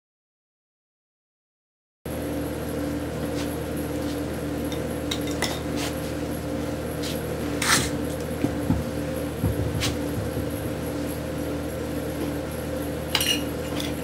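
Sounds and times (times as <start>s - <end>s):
steady background hum: 2.1s - 14.0s.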